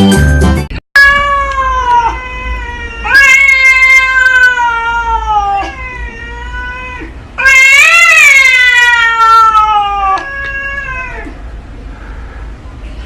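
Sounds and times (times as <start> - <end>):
cat yowling: 1.0 - 11.4.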